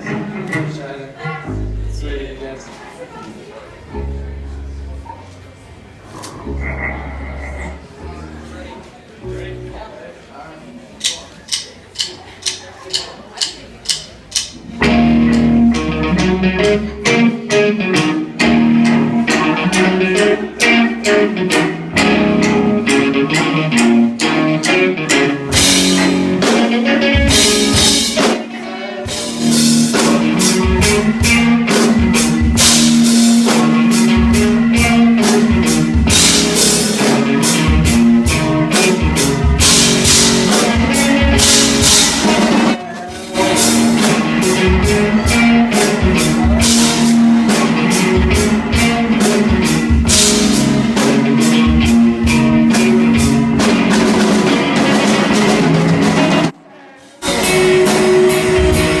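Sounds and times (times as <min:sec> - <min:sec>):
live rock band playing: 0:00.0 - 0:02.4, 0:11.0 - 0:56.6, 0:57.2 - 0:59.0.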